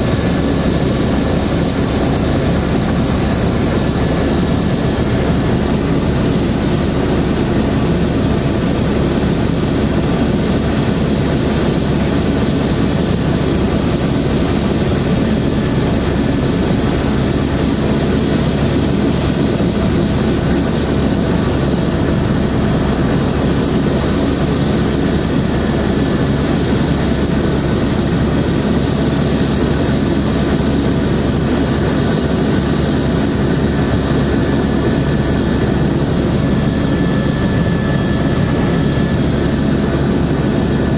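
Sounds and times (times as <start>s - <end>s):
helicopter engine and rotor rumble: 0.0s - 40.9s.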